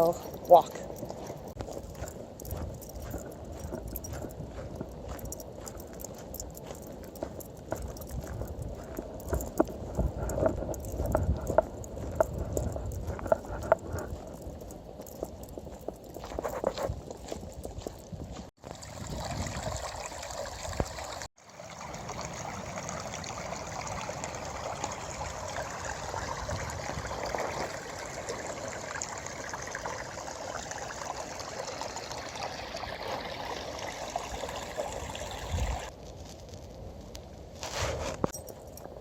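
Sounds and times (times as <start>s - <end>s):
stream trickling: 0.0s - 36.0s.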